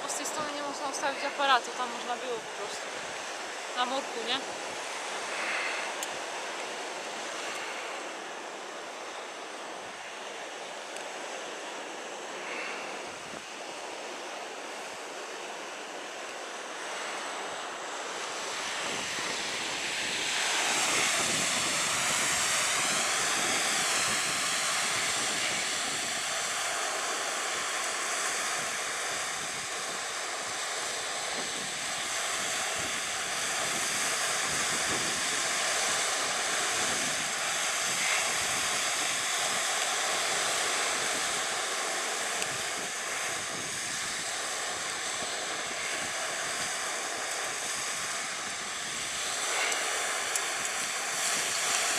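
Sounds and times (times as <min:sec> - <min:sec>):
faint steady drone: 0:00.0 - 0:51.9
waves breaking on beach: 0:00.0 - 0:51.9.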